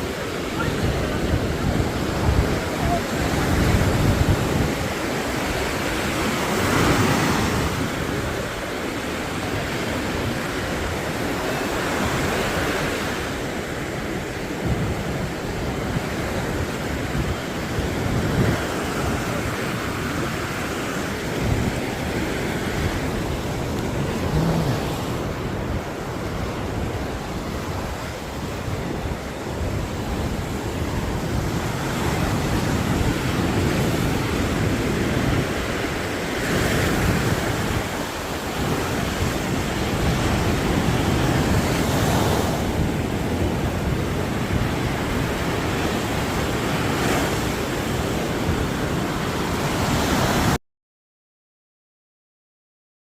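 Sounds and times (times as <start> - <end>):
waves crashing on beach: 0.0 - 50.6
wind on microphone: 0.0 - 50.6.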